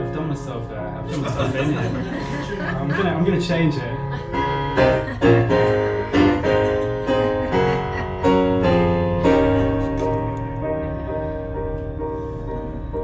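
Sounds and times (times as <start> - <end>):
electric piano chords: 0.0 - 13.0.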